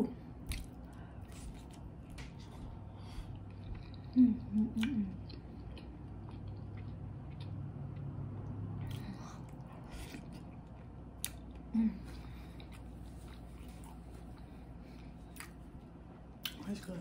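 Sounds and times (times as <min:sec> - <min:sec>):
low hum: 0:00.0 - 0:17.0
chewing: 0:00.4 - 0:16.6.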